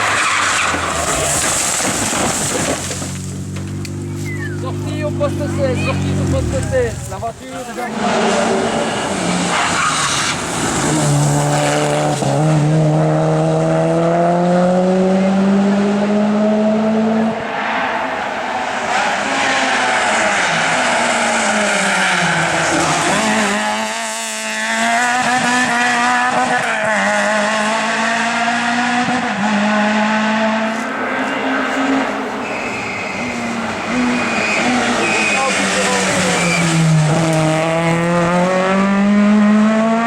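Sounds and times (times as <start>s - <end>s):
race car engine revving: 3.2s - 40.0s.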